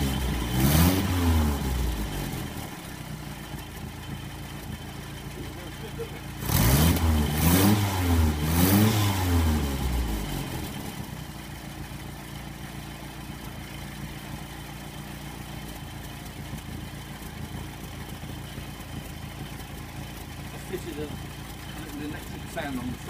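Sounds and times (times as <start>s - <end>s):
engine revving and idling: 0.0s - 23.0s.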